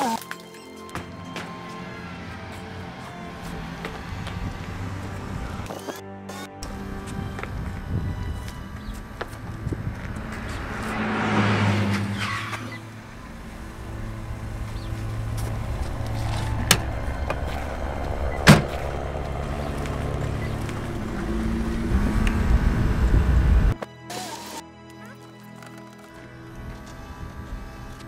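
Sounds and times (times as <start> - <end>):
car engine running: 1.0 - 5.8, 6.4 - 23.8, 26.4 - 28.0.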